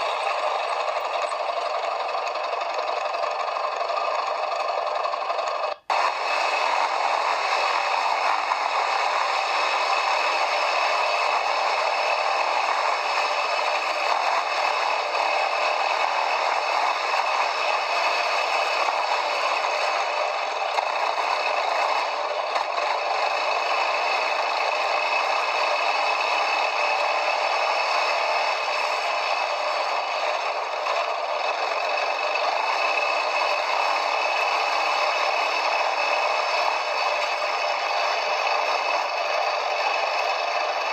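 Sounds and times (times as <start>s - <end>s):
quad bike rattling off-road: 0.0s - 40.9s.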